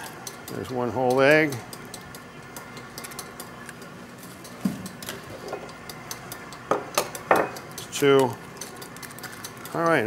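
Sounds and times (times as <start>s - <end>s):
egg tapping against metal bowl: 0.1s - 3.5s, 4.4s - 10.0s.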